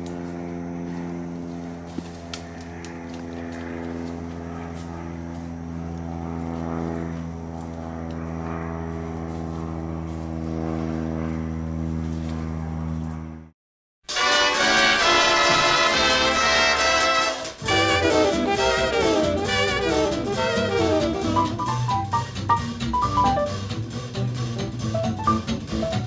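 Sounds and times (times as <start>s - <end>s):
engine droning steadily: 0.0s - 13.5s, 14.7s - 26.0s.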